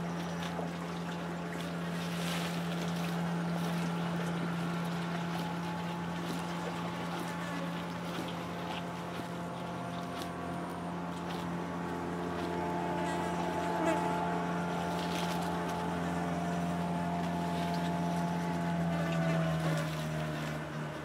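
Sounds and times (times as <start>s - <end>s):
low motor drone: 0.0s - 21.0s.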